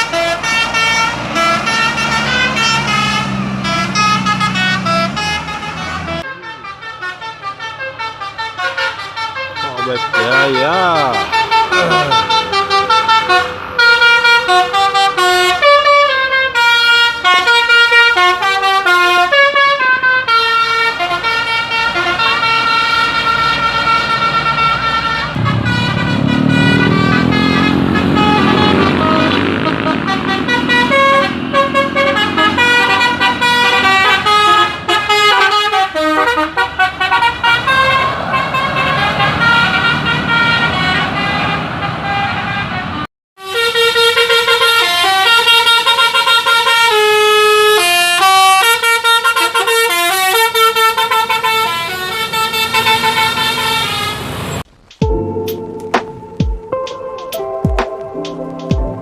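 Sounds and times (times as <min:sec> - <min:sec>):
bus horn playing a melody: 0:00.0 - 0:59.0.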